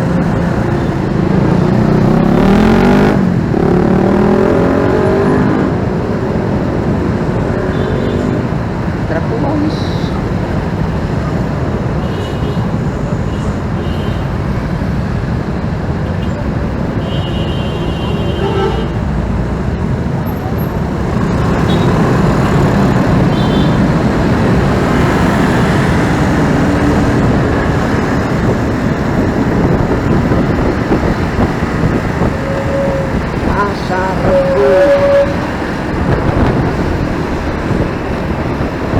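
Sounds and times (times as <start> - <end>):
motorcycle engine: 0.0 - 9.3, 10.3 - 38.9
traffic noise: 0.0 - 38.9.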